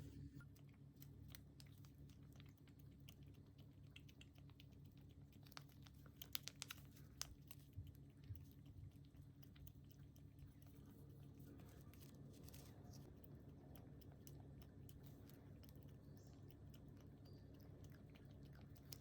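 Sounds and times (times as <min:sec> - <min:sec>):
low steady hum: 0:00.0 - 0:19.0
faint clicks and taps: 0:00.4 - 0:19.0.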